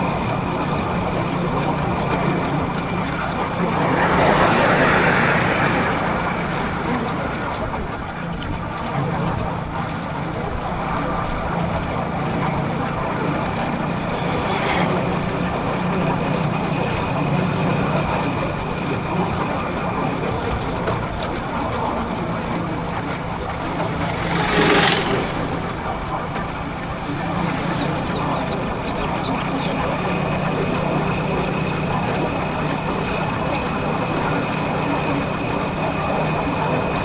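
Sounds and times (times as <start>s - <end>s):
motorcycle engine running: 0.0s - 37.0s
vehicles passing close by: 0.0s - 37.0s
wind and road noise: 0.0s - 37.0s.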